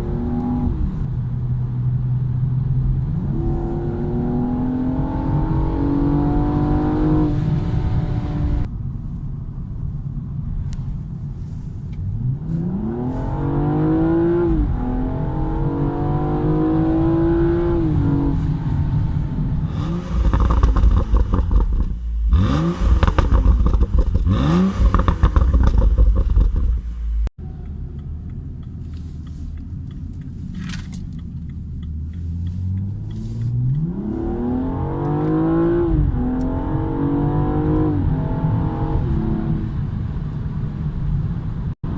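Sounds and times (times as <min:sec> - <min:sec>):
car engine accelerating: 0:00.0 - 0:08.7, 0:10.7 - 0:41.9.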